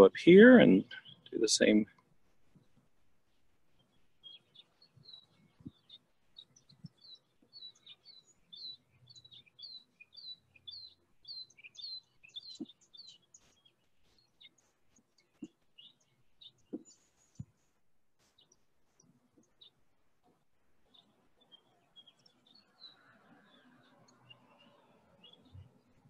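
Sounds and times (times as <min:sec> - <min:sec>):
small bird chirping: 0:00.6 - 0:26.0.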